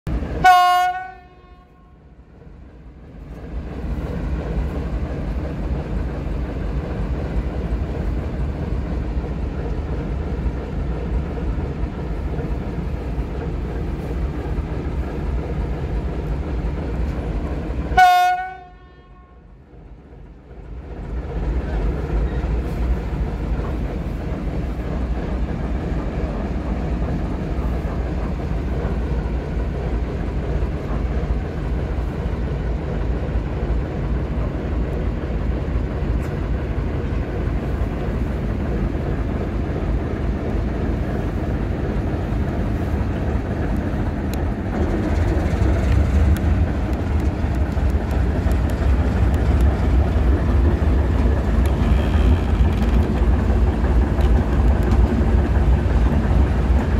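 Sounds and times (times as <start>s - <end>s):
diesel locomotive engine drone: 0.0s - 56.9s.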